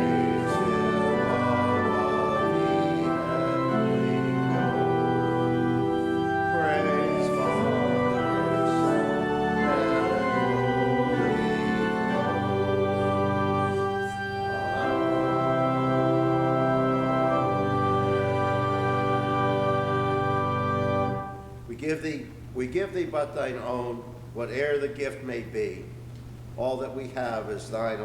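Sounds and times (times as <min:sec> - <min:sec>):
church organ chords: 0:00.0 - 0:24.4.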